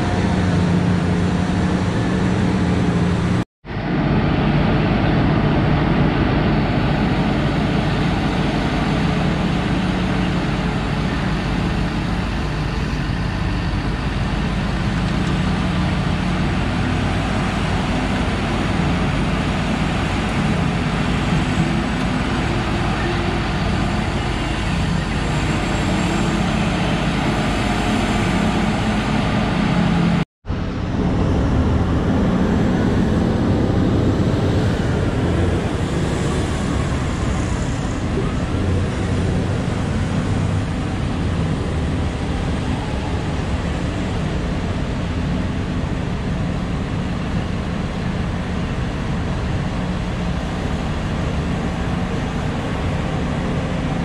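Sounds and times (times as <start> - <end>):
diesel engines running: 0.0 - 54.0
distant engine noise: 0.0 - 54.0.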